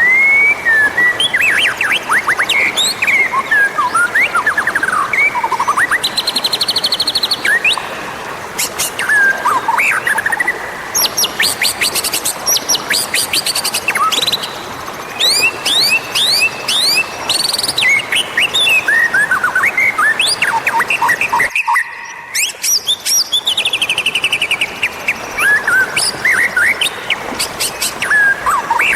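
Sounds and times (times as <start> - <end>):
shama singing whistles and trills: 0.0 - 28.9.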